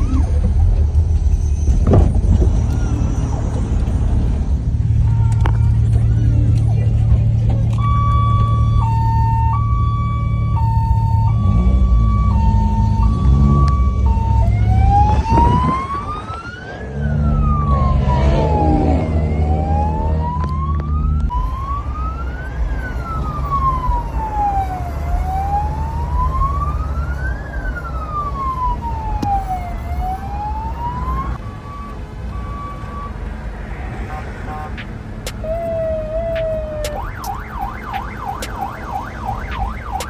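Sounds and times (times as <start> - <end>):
electronic vehicle siren: 0.0 - 6.7, 7.3 - 40.0
vehicle engine rumble: 0.0 - 40.0.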